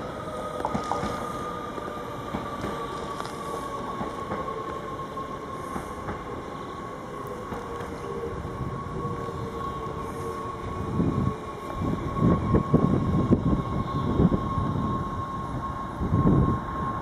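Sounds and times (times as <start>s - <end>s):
train traction motors whining: 0.0s - 17.0s.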